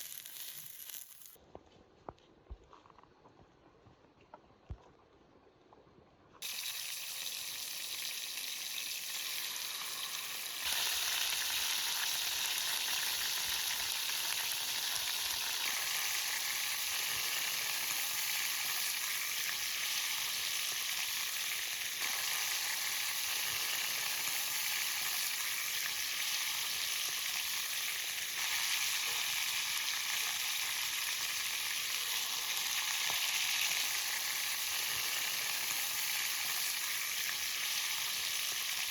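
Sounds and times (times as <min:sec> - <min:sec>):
food sizzling in hot oil: 0:00.0 - 0:01.4, 0:06.4 - 0:38.9.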